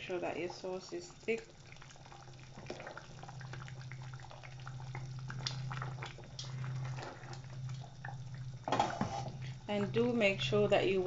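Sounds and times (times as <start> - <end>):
sauce simmering with pops: 0.0 - 10.5
steady low hum: 0.0 - 11.0.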